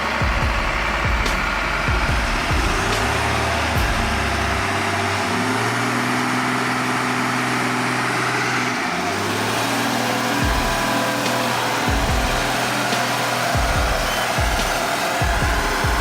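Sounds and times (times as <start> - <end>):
motor vehicle engine running: 0.0 - 16.0.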